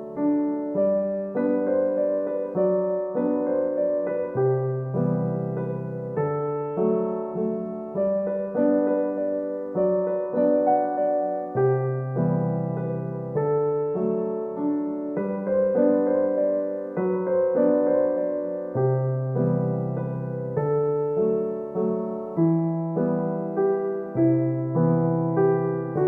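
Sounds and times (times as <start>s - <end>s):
gentle solo piano piece: 0.0s - 26.0s.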